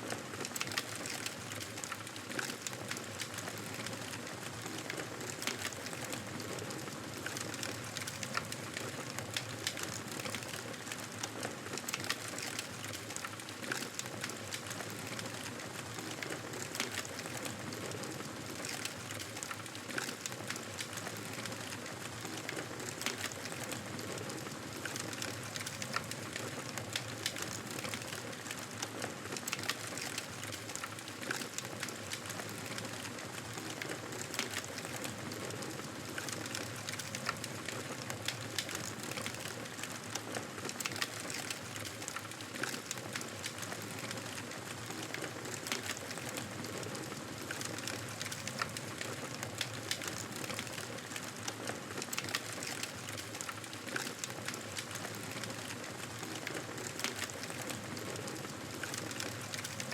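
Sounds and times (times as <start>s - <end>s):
wood fire burning: 0.0s - 59.9s.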